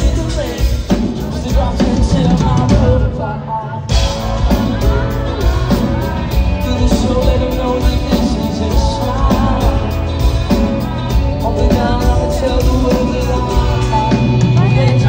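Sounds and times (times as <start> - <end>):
live pop-rock band playing: 0.0 - 15.0
man singing lead vocal: 0.0 - 15.0.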